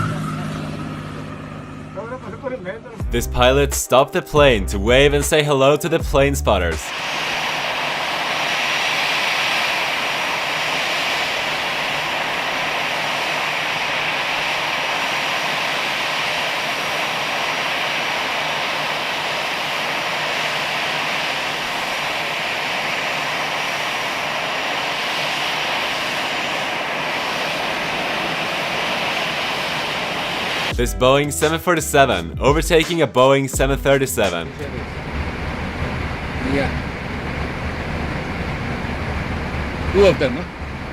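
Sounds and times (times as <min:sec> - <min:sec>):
aircraft engines running: 0:00.0 - 0:04.3, 0:04.9 - 0:30.8, 0:31.4 - 0:40.9.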